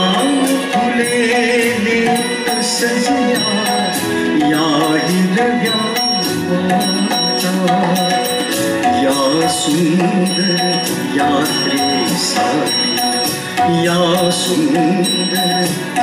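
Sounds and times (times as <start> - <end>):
drum beat: 0.0 - 16.0
instrumental accompaniment: 0.0 - 16.0
man singing: 0.0 - 16.0.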